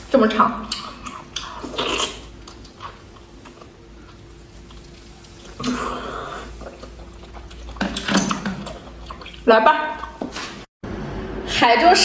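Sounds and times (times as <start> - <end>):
person chewing: 0.7 - 10.4.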